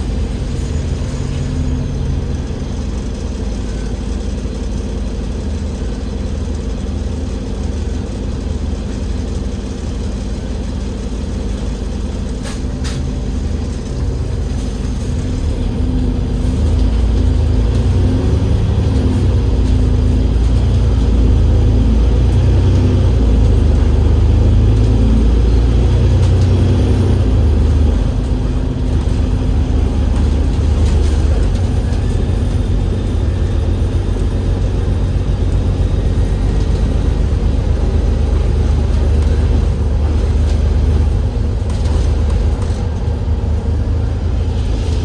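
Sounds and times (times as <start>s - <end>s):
bus diesel engine drone: 0.0s - 45.0s.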